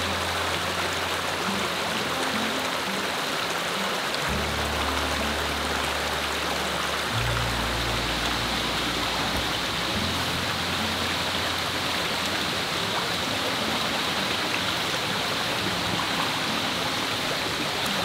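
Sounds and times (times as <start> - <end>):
background music with low notes: 0.0 - 18.0.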